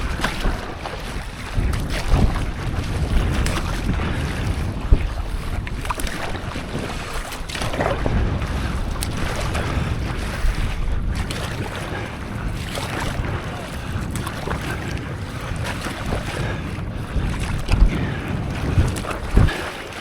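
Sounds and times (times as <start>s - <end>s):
sea water splashing: 0.0s - 20.0s
wind buffeting microphone: 0.0s - 20.0s.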